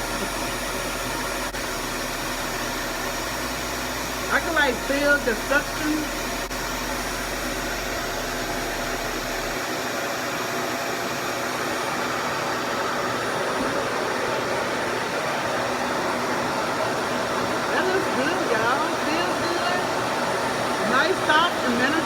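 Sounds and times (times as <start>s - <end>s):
hair dryer rushing drone: 0.0s - 22.0s.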